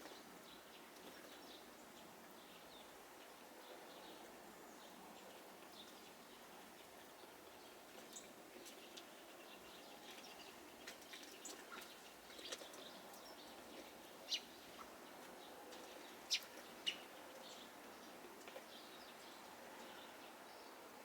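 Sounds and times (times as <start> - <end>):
faint steady hiss: 0.0 - 21.0
songbirds chirping: 0.0 - 21.0.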